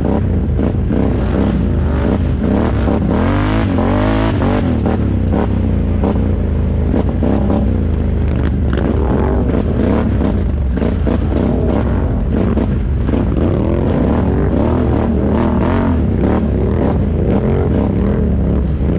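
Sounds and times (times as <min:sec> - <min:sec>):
atv engine revving: 0:00.0 - 0:18.9.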